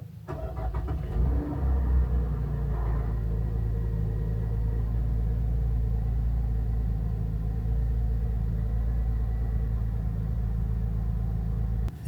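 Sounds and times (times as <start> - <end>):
car engine idling: 0.2 - 12.0.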